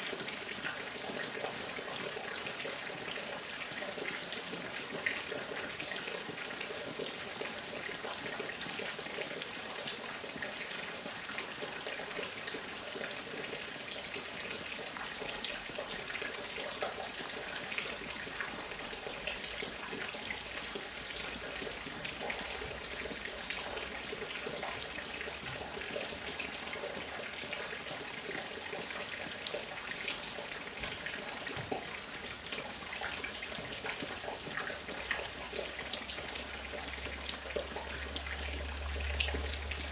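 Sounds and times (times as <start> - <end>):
light rain falling: 0.0 - 39.9
water dripping from roof: 0.0 - 39.9.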